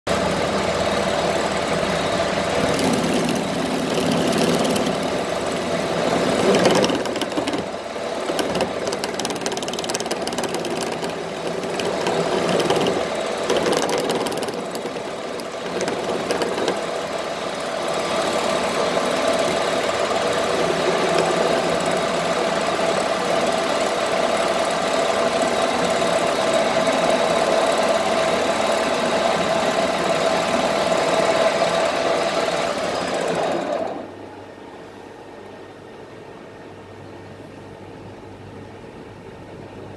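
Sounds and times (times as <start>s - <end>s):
metal lathe running with whine: 0.1s - 34.1s.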